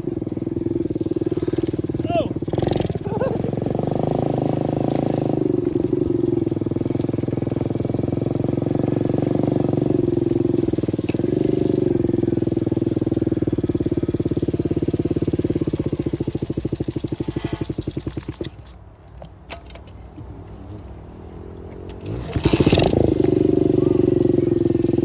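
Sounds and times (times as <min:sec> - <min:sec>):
dirt bike engine running: 0:00.0 - 0:18.8, 0:21.4 - 0:25.0.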